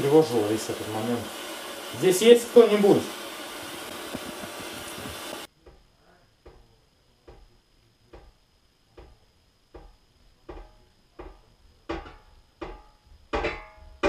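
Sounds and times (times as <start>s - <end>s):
static hiss: 0.0s - 13.4s.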